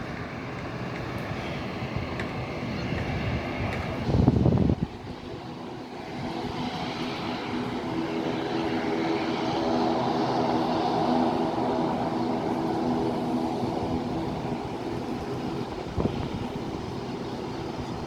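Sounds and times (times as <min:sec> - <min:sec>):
airliner engines humming: 0:00.0 - 0:18.0.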